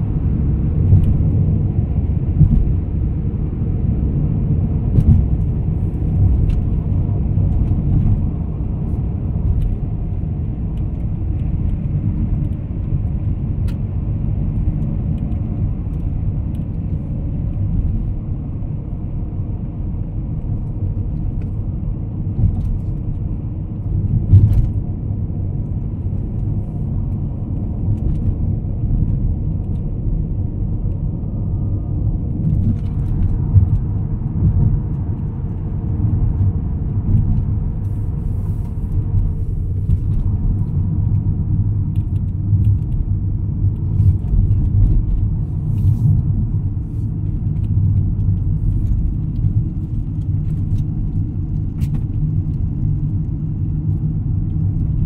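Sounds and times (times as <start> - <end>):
car cabin rumble of tyres and engine: 0.0 - 55.0.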